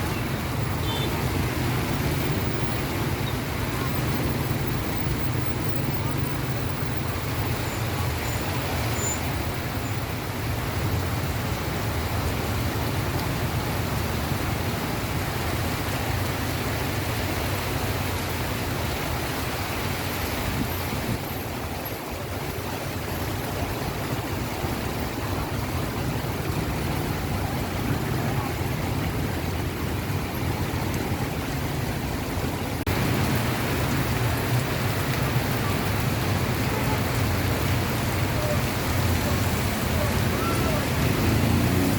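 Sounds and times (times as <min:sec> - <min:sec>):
heavy rain on street: 0:00.0 - 0:41.9
road traffic: 0:00.0 - 0:41.9.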